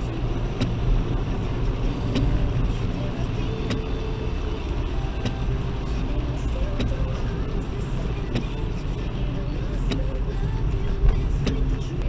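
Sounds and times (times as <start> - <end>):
car engine and tyres on wet road: 0.0 - 12.0
windscreen wipers clicking: 0.0 - 12.0.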